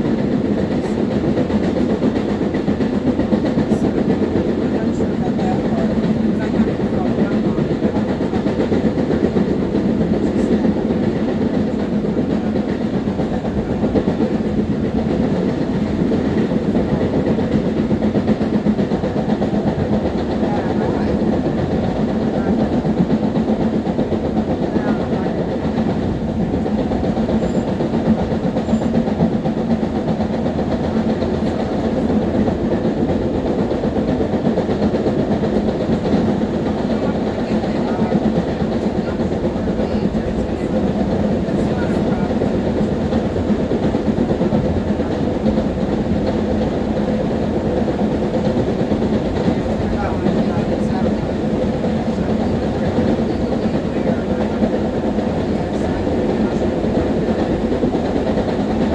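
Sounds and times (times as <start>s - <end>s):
train motor hum: 0.0s - 58.9s
train wheels rumbling on rail: 0.0s - 58.9s.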